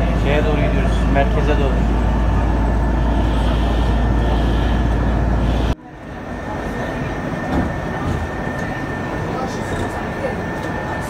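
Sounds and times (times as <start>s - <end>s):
bus engine and road rumble: 0.0s - 11.0s
light ride noise: 0.0s - 11.0s.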